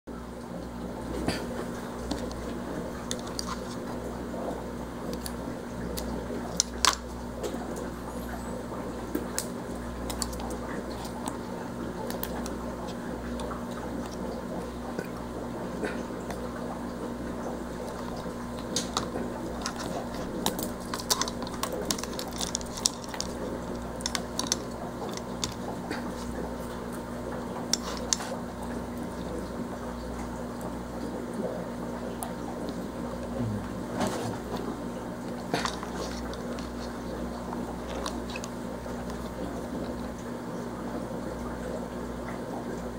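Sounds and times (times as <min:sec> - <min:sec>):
low electrical hum: 0:00.1 - 0:42.9.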